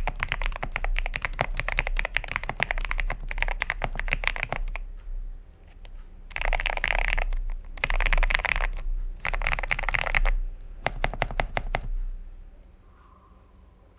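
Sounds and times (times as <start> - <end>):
mechanical keyboard typing: 0.0 - 5.0, 5.6 - 12.2.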